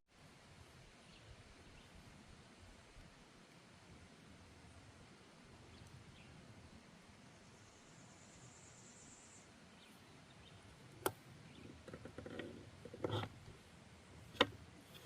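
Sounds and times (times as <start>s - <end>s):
faint high steady buzz: 0.2s - 15.0s.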